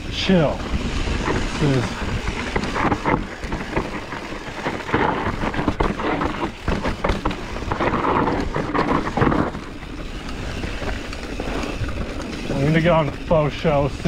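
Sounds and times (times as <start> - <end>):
mountain bike rattling on dirt: 0.0 - 14.0
wind noise on microphone: 0.0 - 14.0.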